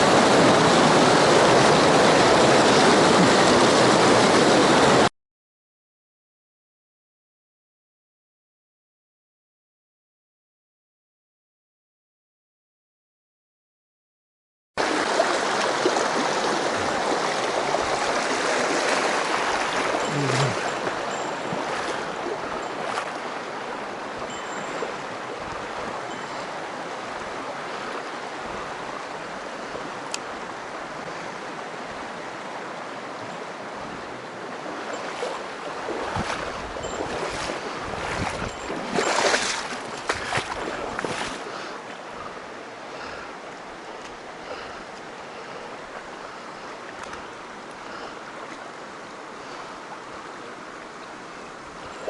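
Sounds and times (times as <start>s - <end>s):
mountain stream rushing: 0.0s - 5.1s, 14.8s - 52.0s.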